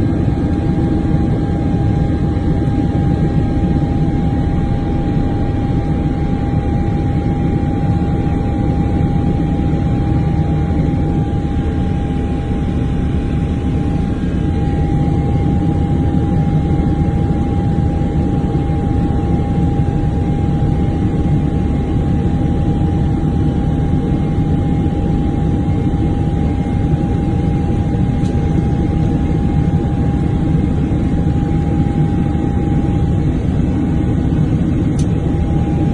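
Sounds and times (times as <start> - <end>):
aircraft engine low rumble: 0.0 - 35.9
constant whining tone: 0.0 - 35.9.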